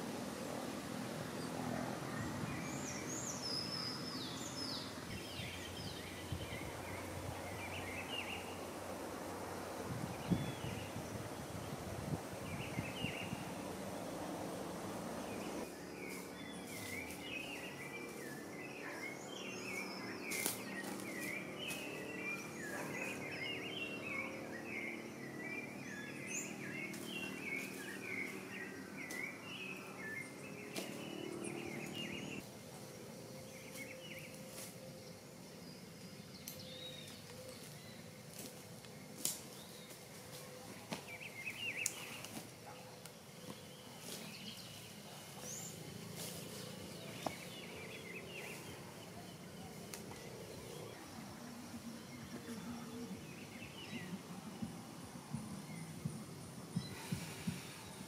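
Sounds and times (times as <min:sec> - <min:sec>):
broad rushing noise: 0:00.0 - 0:32.6, 0:44.0 - 0:58.0
small birds chirping: 0:00.1 - 0:58.0.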